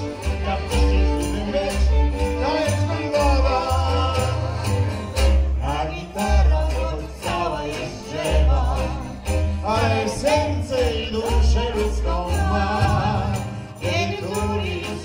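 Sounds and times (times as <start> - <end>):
accordion: 0.0 - 15.0
plucked double bass: 0.0 - 15.0
strummed acoustic guitar: 0.0 - 15.0
violin: 0.0 - 15.0.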